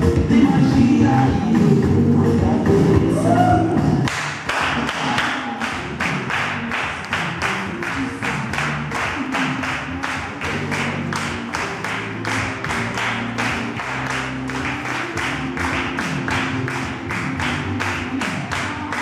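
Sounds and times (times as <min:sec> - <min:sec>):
up-tempo dance music: 0:00.0 - 0:19.0.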